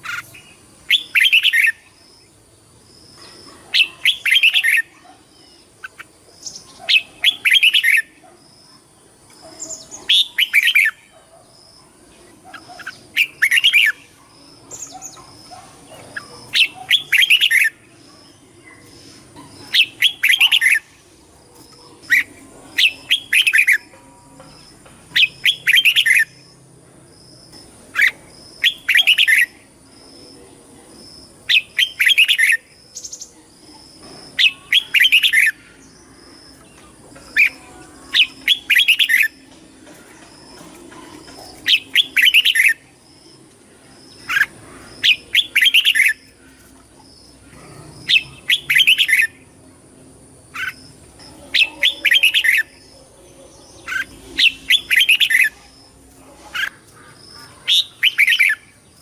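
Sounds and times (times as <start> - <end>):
bird singing warbling phrases: 0.0 - 2.4, 3.0 - 26.5, 27.6 - 49.6, 50.4 - 59.0.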